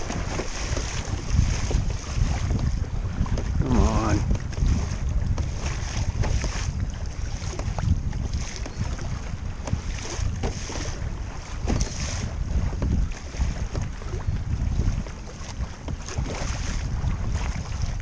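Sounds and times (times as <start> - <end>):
knocks of waves: 0.0 - 18.0
water slapping against kayak hull: 0.0 - 18.0
wind buffeting microphone: 0.0 - 18.0.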